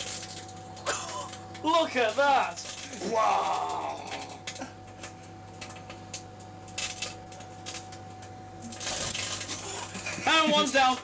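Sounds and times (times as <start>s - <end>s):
discs sparking with crackles and pops: 0.0s - 11.0s
microwave oven humming: 0.0s - 11.0s.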